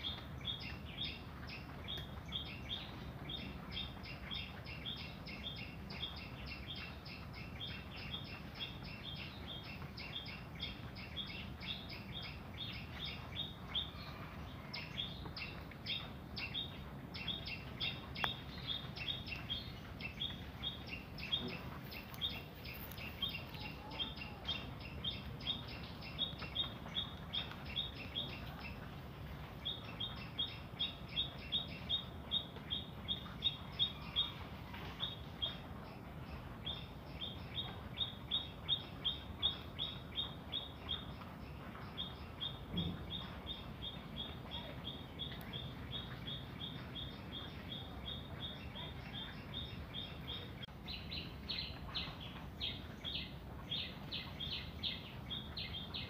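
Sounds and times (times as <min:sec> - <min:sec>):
small bird chirping: 0:00.0 - 0:56.0.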